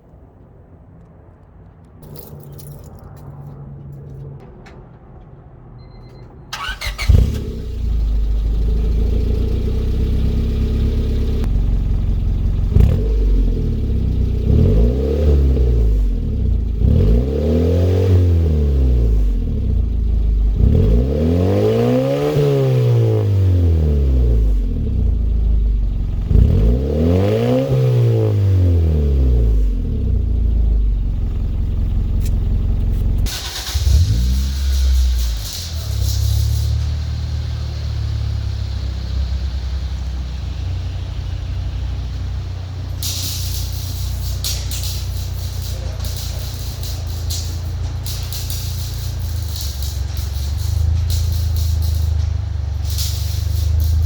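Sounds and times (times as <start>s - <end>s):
car engine starting and idling: 1.4s - 54.0s
car engine revving: 6.5s - 54.0s.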